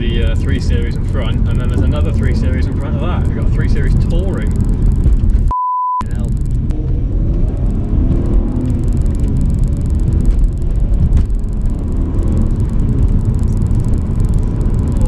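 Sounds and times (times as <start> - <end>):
car engine pulling through gears: 0.0 - 15.0
low rumble of tyres on road: 0.0 - 15.0.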